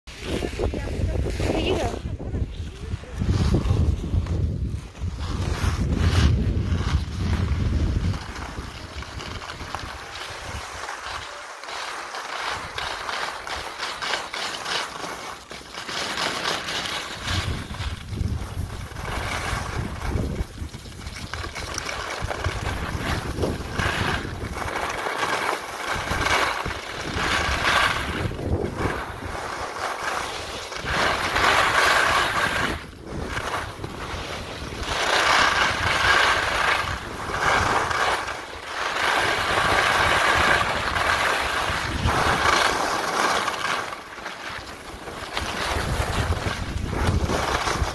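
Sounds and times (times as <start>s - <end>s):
wind on microphone: 0.1s - 11.2s, 17.1s - 43.3s, 45.3s - 47.9s
skis scraping over snow: 0.1s - 47.9s.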